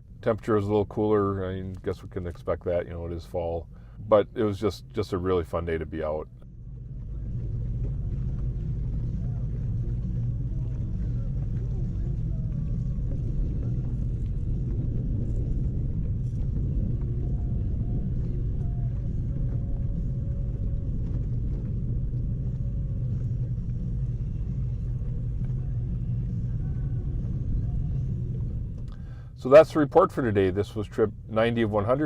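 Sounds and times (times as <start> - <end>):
outboard motor running: 3.0 - 32.0.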